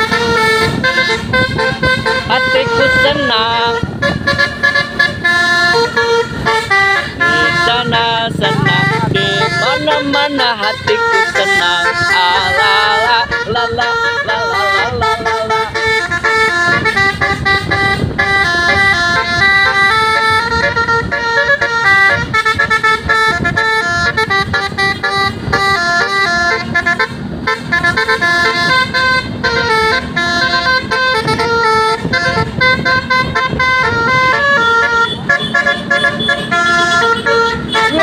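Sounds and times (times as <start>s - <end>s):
bus horn playing fast melody: 0.0s - 38.0s.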